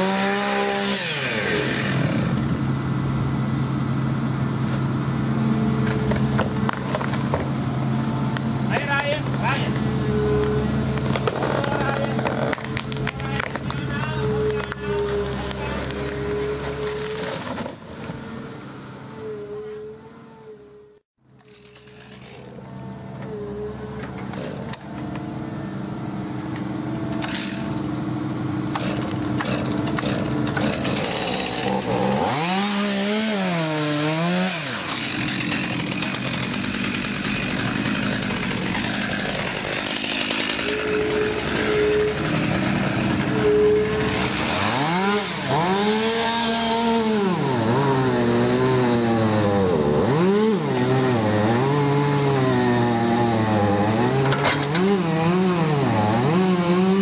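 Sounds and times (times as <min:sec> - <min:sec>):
excavator engine revving: 0:00.0 - 0:57.0.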